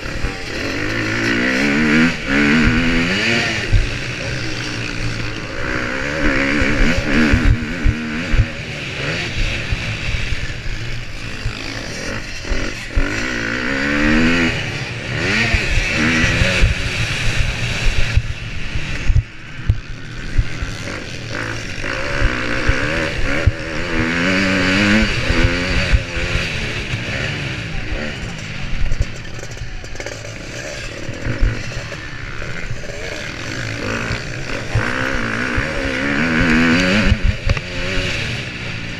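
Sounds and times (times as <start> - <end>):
motocross engine revving: 0.0 - 38.9.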